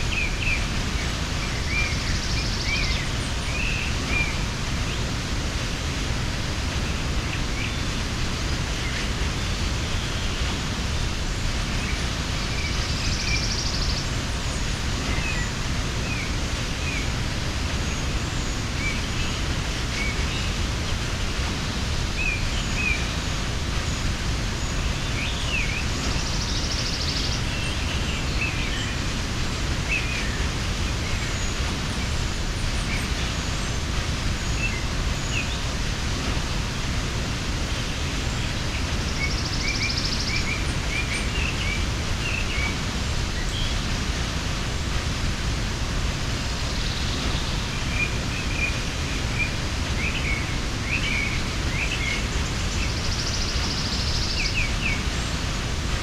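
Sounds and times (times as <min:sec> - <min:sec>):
small birds chirping: 0:00.0 - 0:56.0
waterfall: 0:00.0 - 0:56.0.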